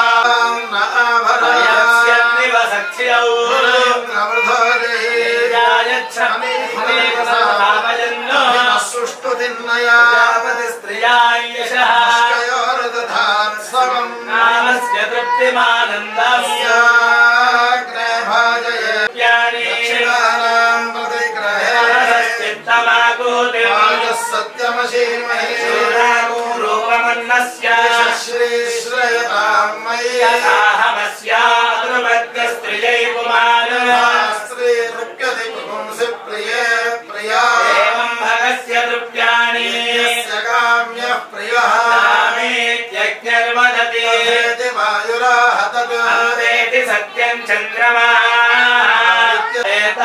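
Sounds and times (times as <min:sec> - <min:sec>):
man chanting: 0:00.0 - 0:50.0.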